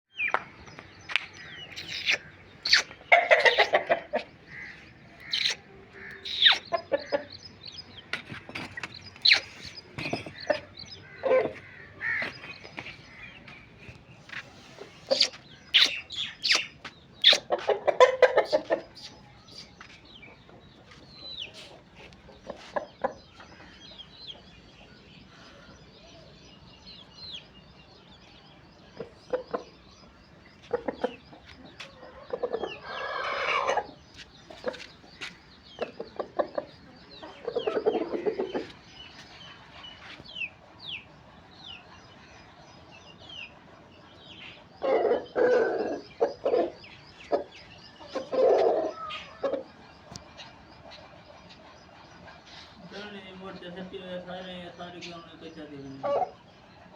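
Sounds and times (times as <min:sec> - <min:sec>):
chicks peeping: 0:00.2 - 0:56.9
chickens clucking: 0:01.0 - 0:25.7, 0:28.8 - 0:56.9.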